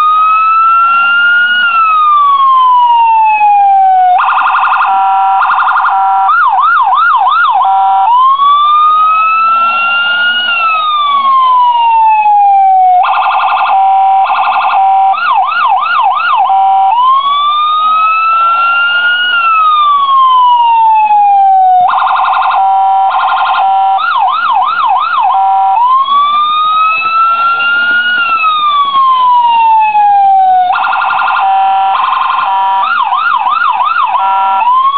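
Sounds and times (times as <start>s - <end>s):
electronic police siren: 0.0s - 34.9s.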